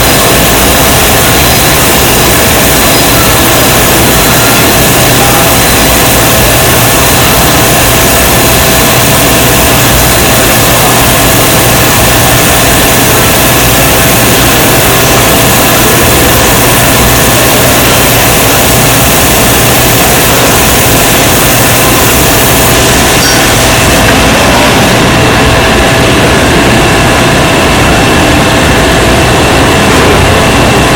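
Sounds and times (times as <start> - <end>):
cnc machine running: 0.0 - 30.9.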